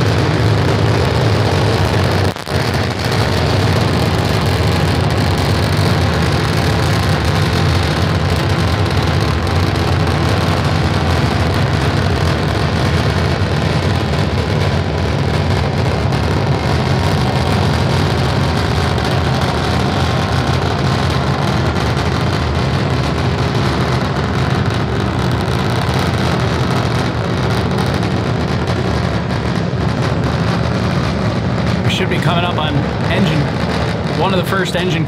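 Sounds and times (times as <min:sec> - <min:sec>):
rocket engines rumbling: 0:00.0 - 0:35.0.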